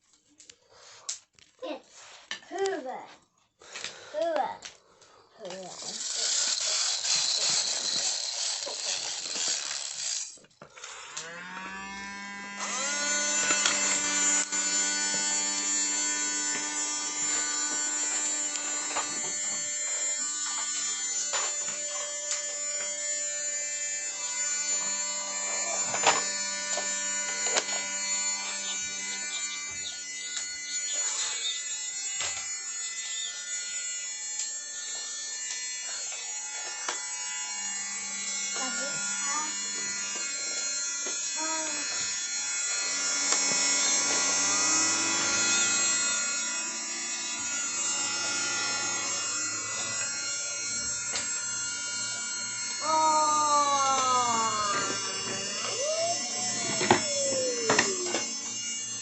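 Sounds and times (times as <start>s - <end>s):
vacuum cleaner motor running: 5.5s - 59.0s.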